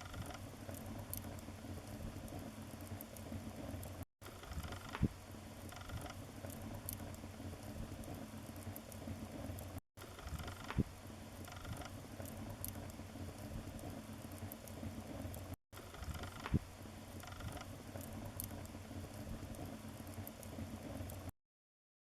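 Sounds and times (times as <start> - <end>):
wood fire crackling: 0.0 - 21.3.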